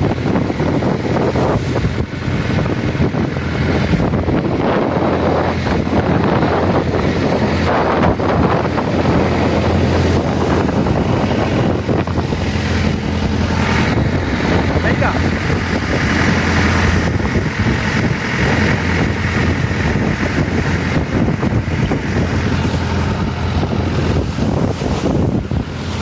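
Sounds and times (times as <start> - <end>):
boat engine drone: 0.0 - 26.0
sea water rushing: 0.0 - 26.0
wind buffeting microphone: 0.0 - 26.0.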